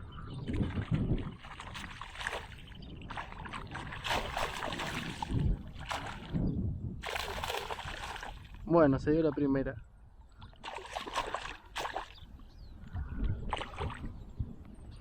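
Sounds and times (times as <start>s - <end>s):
water splashing around kayak: 0.0s - 8.7s, 10.3s - 14.3s.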